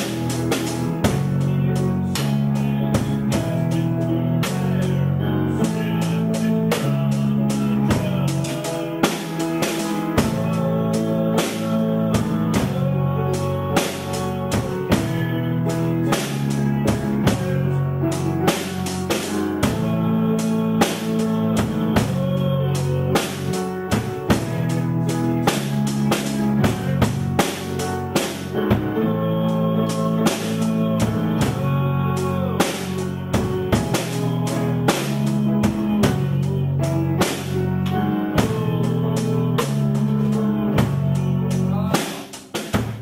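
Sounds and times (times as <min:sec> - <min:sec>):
sustained guitar chords: 0:00.0 - 0:42.1
drum kit beat: 0:00.0 - 0:43.0.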